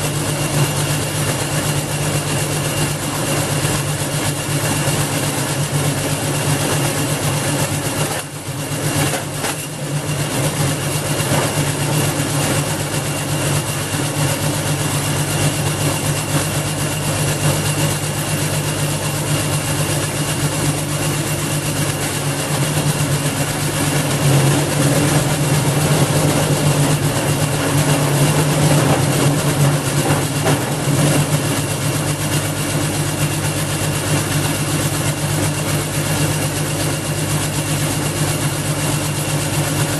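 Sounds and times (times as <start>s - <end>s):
wood chipper engine running: 0.0s - 39.9s.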